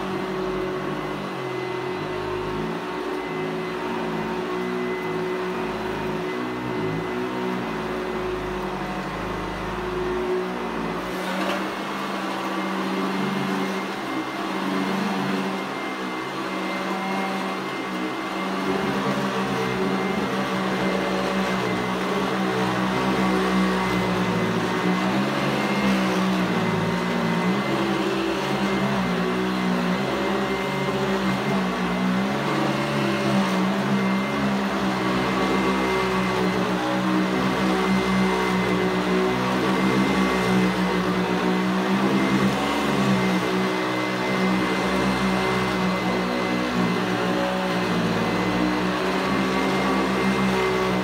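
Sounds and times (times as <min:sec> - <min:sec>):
upright vacuum cleaner running: 0:00.0 - 0:51.0.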